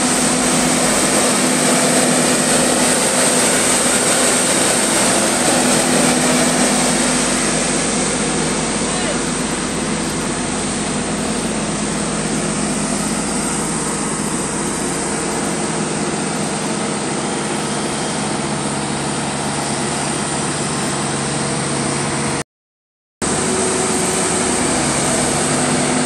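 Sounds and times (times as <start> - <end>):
road roller diesel engine hum: 0.0 - 22.4, 23.2 - 26.0.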